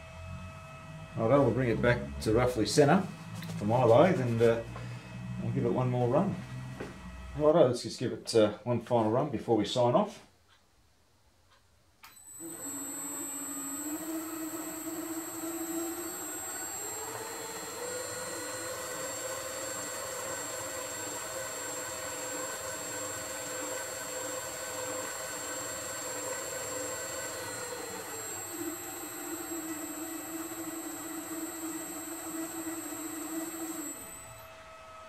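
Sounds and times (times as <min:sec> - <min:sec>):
electric motor whining: 0:00.0 - 0:07.5, 0:12.1 - 0:35.0.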